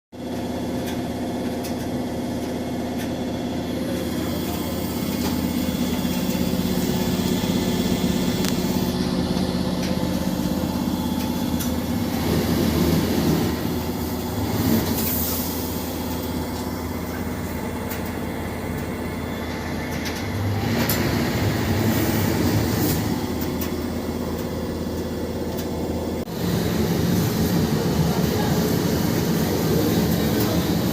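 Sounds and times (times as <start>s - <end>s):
washing machine hum and rumble: 0.2s - 30.9s.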